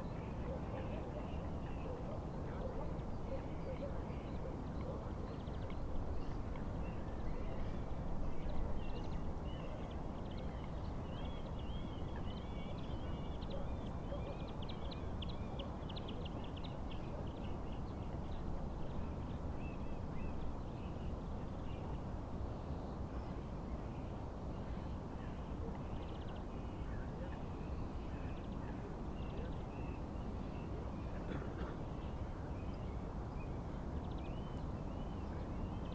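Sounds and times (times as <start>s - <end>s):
wind: 0.0s - 35.9s.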